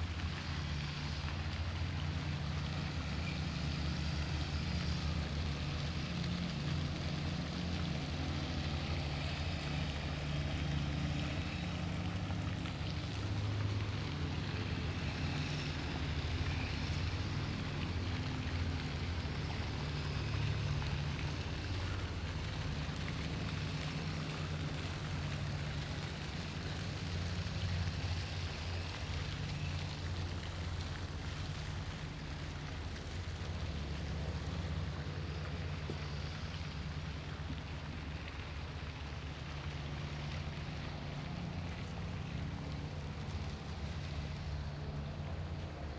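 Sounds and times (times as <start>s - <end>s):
fountain water splashing: 0.0s - 45.9s.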